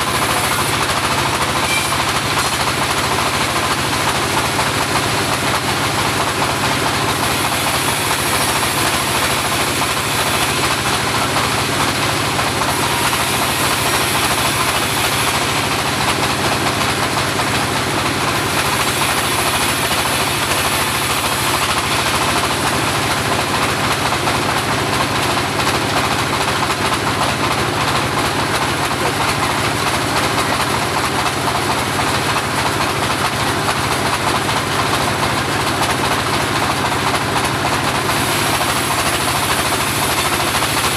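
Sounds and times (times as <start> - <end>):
bandsaw running: 0.0 - 40.9.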